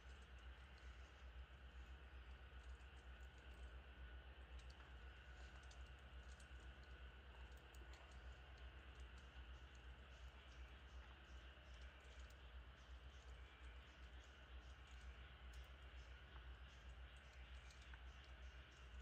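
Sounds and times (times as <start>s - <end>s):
faint campfire crackles: 0.0s - 19.0s
low steady hum: 0.0s - 19.0s.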